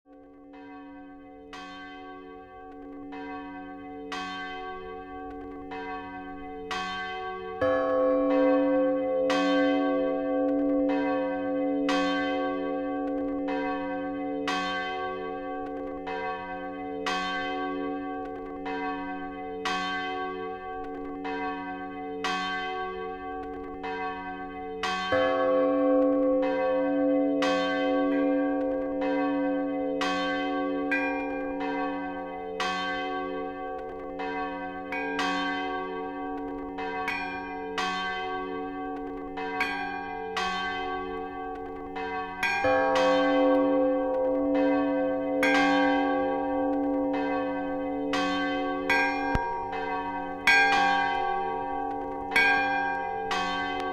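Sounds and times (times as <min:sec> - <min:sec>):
church bells pealing: 0:00.1 - 0:53.9.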